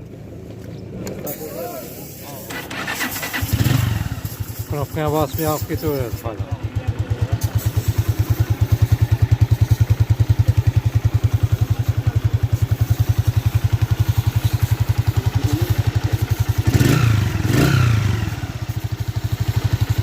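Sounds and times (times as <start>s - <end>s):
motorcycle engine idling: 1.5s - 20.0s.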